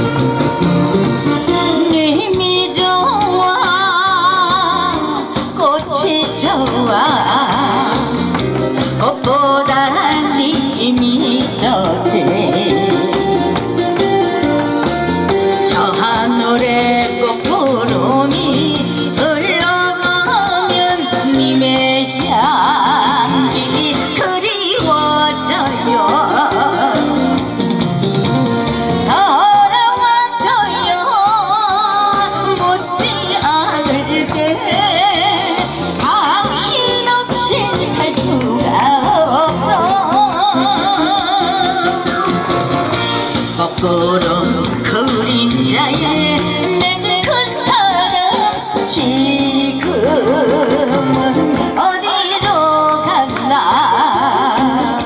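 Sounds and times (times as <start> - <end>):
backing track with steady beat: 0.0 - 55.0
instrumental accompaniment: 0.0 - 55.0
woman singing with vibrato: 1.3 - 27.6, 29.0 - 55.0.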